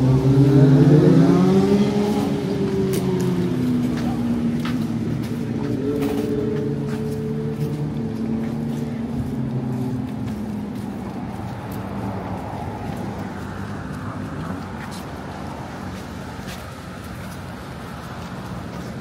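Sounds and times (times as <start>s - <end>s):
traffic noise: 0.0s - 19.0s
vehicle engine humming: 0.0s - 19.0s.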